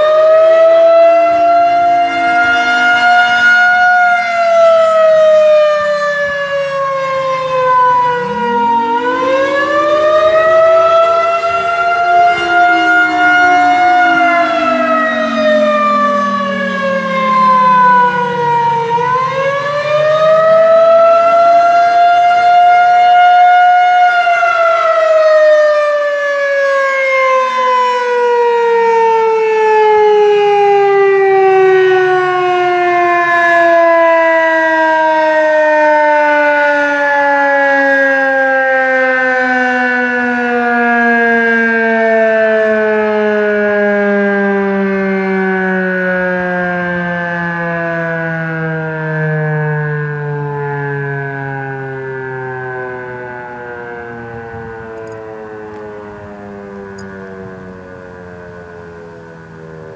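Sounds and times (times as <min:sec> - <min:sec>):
tornado warning siren wailing: 0:00.0 - 0:59.9.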